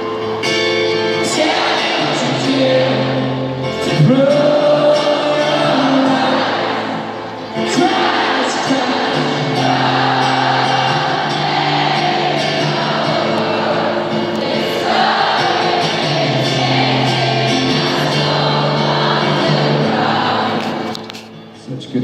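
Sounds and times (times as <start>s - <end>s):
crowd singing along: 0.0s - 21.6s.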